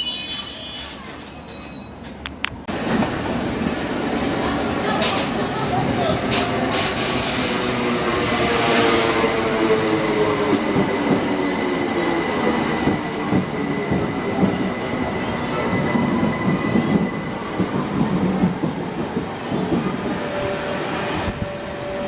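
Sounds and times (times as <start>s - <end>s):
train wheels on rails: 2.0s - 22.0s.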